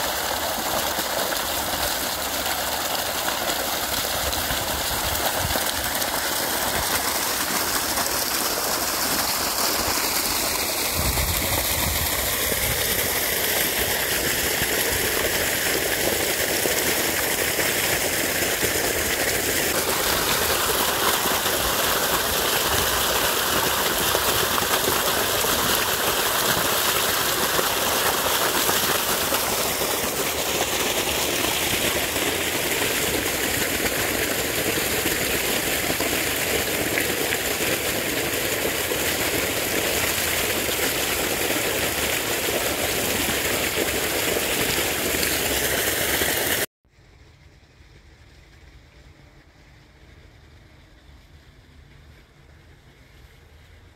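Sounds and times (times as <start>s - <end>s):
water gushing from pump outlet: 0.0s - 46.7s.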